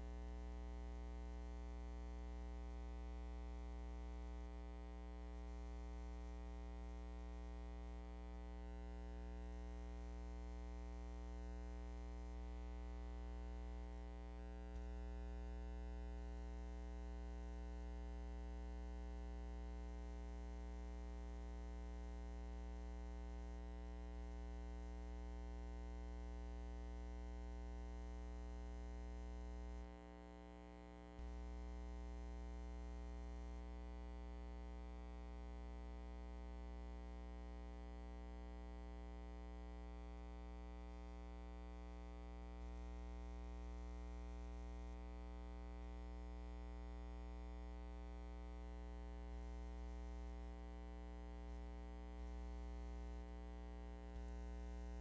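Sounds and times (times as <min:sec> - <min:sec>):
electrical hum with buzz: 0:00.0 - 0:55.0.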